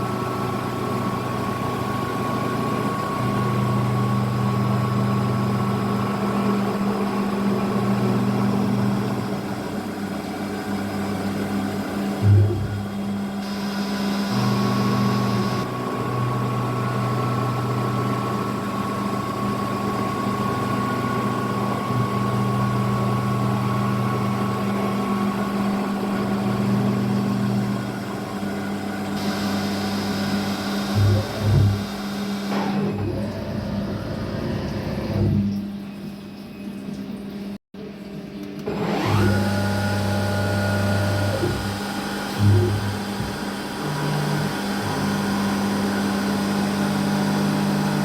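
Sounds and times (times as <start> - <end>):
milling machine motor whine: 0.0 - 36.6, 38.5 - 48.0.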